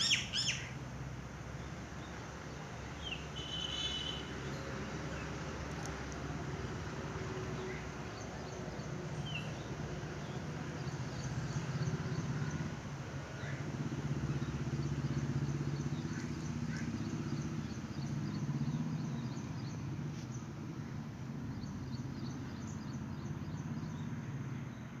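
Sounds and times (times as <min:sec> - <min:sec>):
small birds chirping and trilling: 0:00.0 - 0:00.8, 0:01.5 - 0:06.0, 0:07.5 - 0:12.7, 0:14.2 - 0:20.6, 0:21.4 - 0:25.0.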